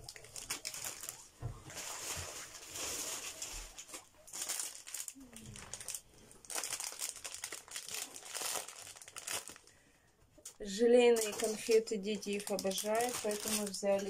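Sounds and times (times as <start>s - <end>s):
plastic packaging crinkling: 0.0s - 9.8s, 10.4s - 14.0s.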